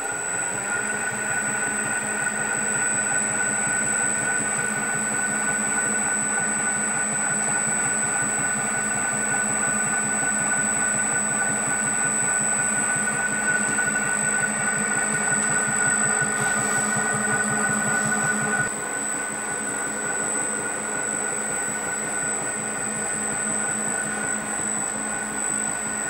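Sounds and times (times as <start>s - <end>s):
roller mill hum and whine: 0.0s - 26.0s.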